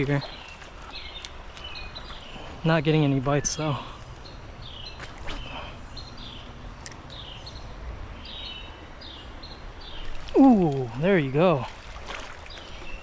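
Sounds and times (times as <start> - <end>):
songbird chirping: 0.0 - 11.7.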